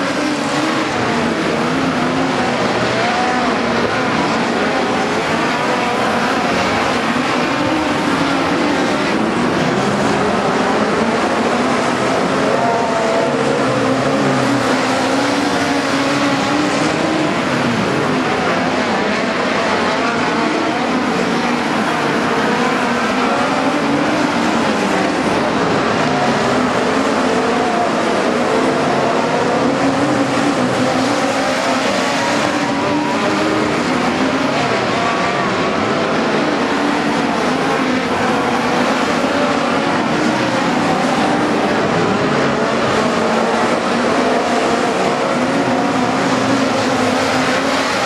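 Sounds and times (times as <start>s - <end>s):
race car engines passing: 0.0s - 48.0s.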